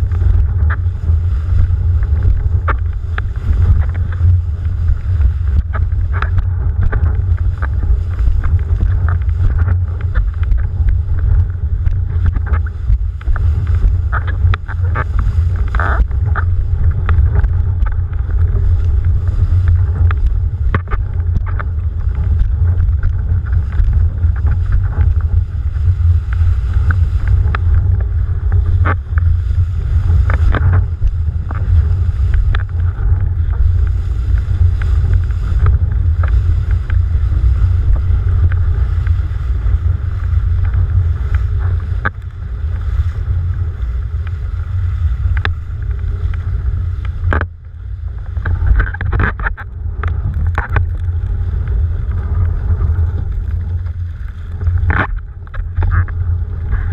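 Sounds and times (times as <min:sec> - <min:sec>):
rushing water and spray: 0:00.0 - 0:56.9
wind buffeting microphone: 0:00.0 - 0:56.9.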